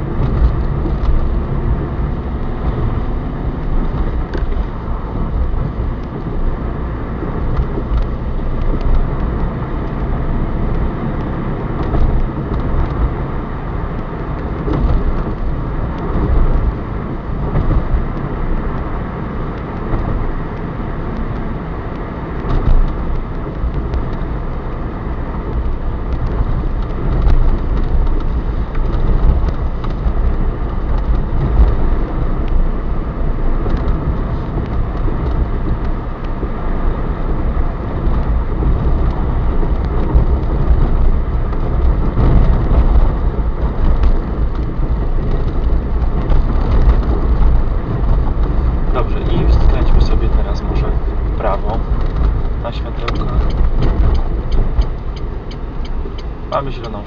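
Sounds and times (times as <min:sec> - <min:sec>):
car cabin road and engine noise: 0:00.0 - 0:57.0.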